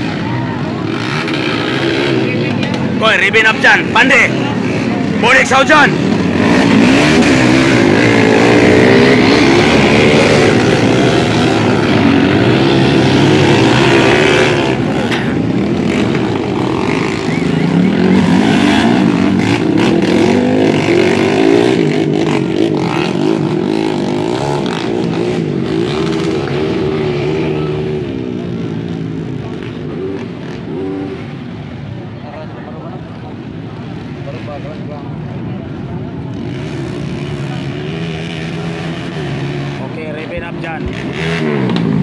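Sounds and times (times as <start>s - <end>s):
motorcycle engines revving: 0.0s - 42.0s.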